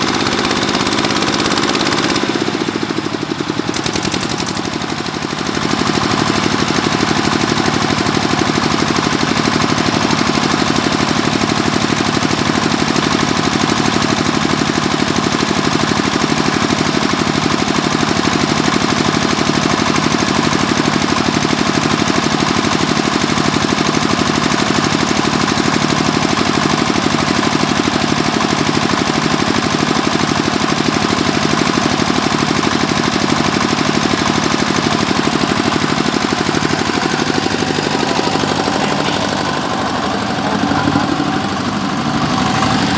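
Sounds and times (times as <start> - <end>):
drilling machine engine knocking: 0.0 - 42.9.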